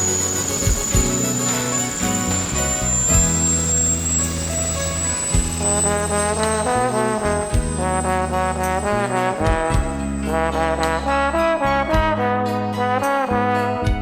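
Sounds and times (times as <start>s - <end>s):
light ticking beat: 0.0s - 11.5s
gliding lead melody: 0.0s - 12.5s
steady bass: 0.0s - 13.6s.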